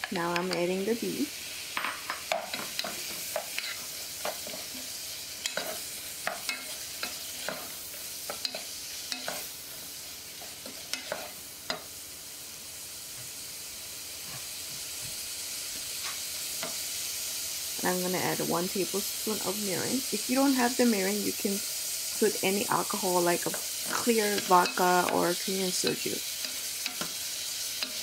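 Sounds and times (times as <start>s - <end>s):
meat sizzling in hot oil: 0.0s - 28.0s.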